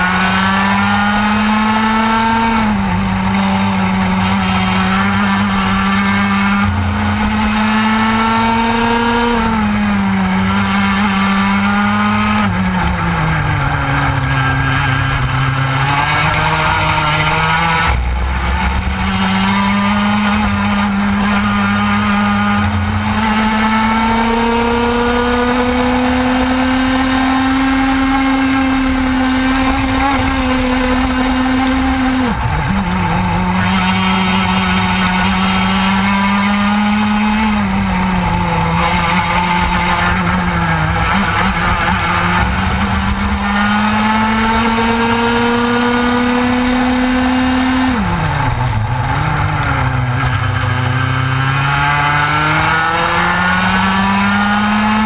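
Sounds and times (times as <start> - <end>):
kart engine buzzing: 0.0 - 55.0.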